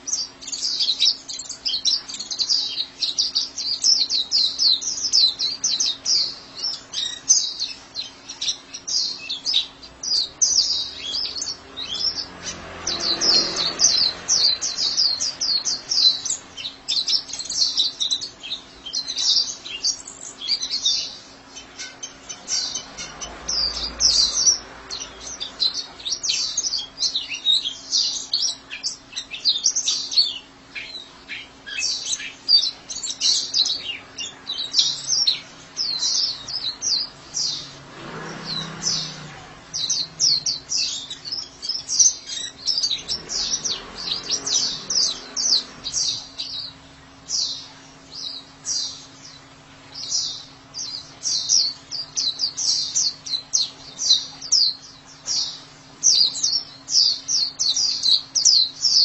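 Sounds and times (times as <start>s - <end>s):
bird chirping and twittering: 0.0s - 59.0s.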